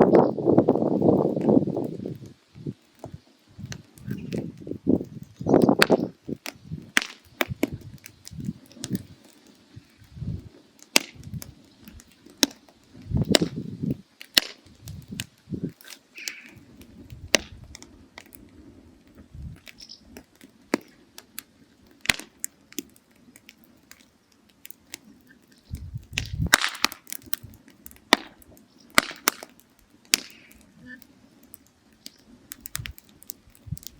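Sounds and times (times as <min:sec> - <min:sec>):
firewood crackling and popping: 0:00.0 - 0:33.9.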